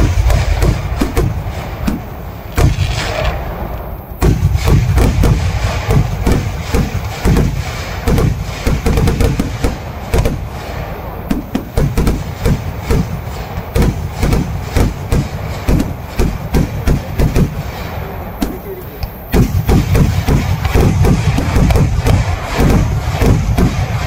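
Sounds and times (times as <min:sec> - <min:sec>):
fireworks bangs and thuds: 0:00.0 - 0:24.0.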